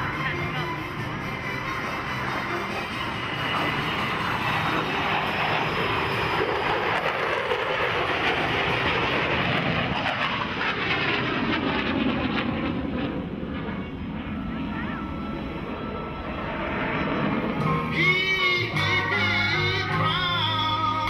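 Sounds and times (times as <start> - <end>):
aircraft engine rushing: 0.0 - 21.0.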